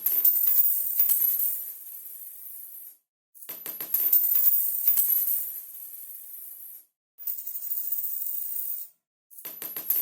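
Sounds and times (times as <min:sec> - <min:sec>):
coins clinking on hard floor: 0:00.2 - 0:10.0.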